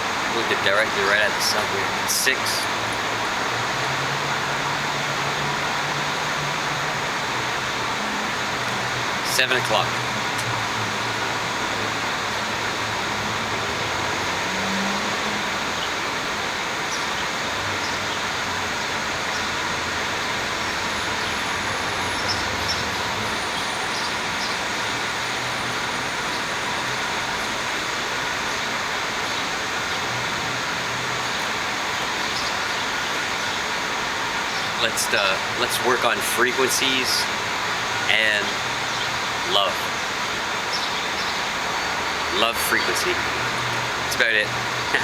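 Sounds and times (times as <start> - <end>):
road traffic roar: 0.0 - 45.0.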